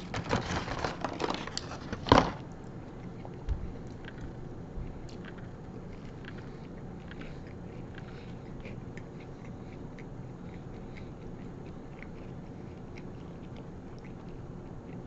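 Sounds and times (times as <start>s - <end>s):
low background hum: 0.0s - 15.0s
person chewing crunchy food: 2.4s - 15.0s.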